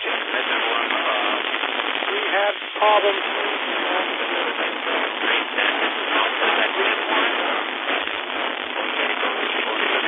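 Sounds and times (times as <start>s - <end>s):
faint broken voice: 0.0s - 10.0s
radio static hiss: 0.0s - 10.0s.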